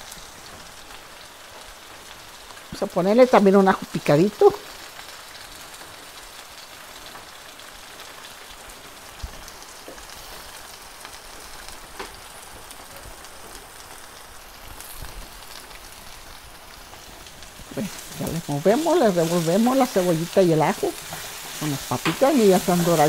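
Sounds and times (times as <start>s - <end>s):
potatoes sizzling in fat: 0.0s - 23.0s.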